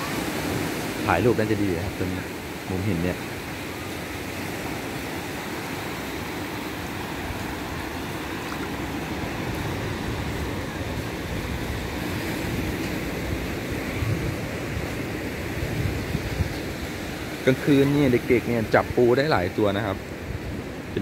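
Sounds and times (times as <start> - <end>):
sea surf on sandy beach: 0.0 - 21.0.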